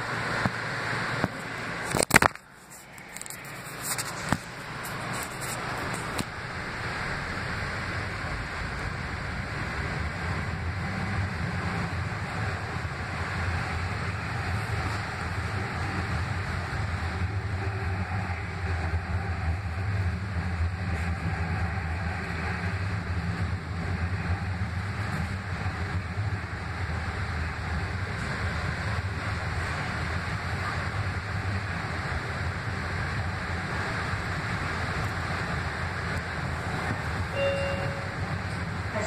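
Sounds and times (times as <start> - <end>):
train interior rumble: 0.0 - 39.0.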